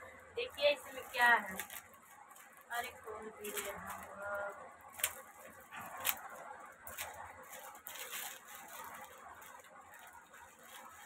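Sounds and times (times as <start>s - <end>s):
plastic packet tearing and crinkling: 0.4s - 11.0s.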